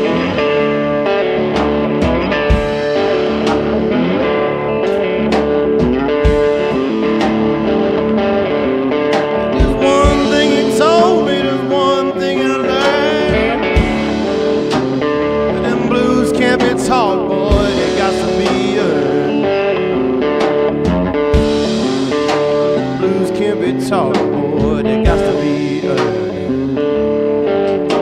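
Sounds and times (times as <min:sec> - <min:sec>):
blues-rock song: 0:00.0 - 0:28.0.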